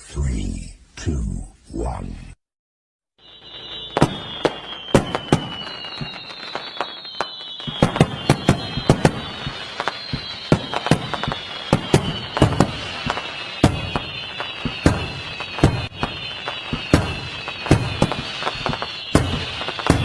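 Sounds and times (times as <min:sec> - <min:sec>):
fireworks bangs and crackles: 0:03.2 - 0:20.0
fireworks whistling: 0:03.2 - 0:20.0.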